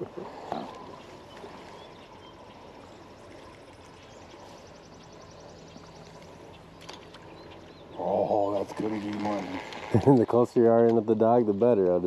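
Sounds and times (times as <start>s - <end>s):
faint water noise: 0.0s - 12.0s.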